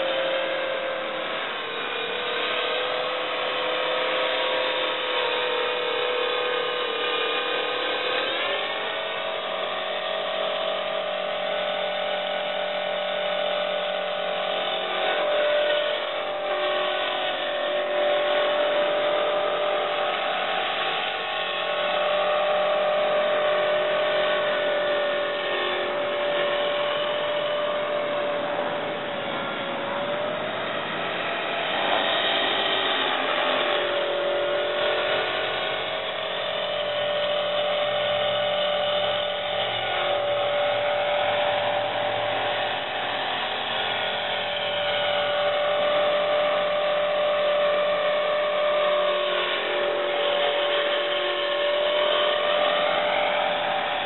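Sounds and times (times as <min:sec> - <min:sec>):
rc helicopter motor and rotor whine: 0:00.0 - 0:54.0.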